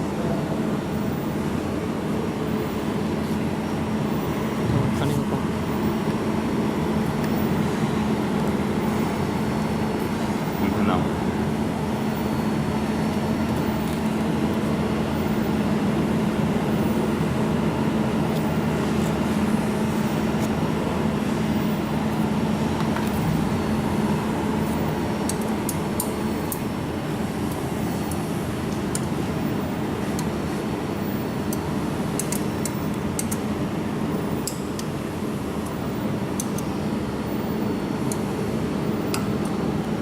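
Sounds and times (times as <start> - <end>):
steady machine hum: 0.0 - 40.0.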